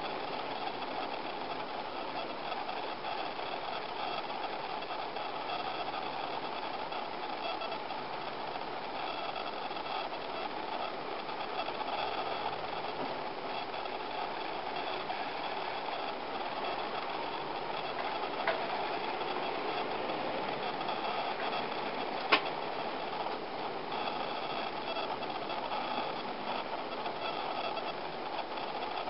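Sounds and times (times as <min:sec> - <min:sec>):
background hum and hiss: 0:00.0 - 0:29.0.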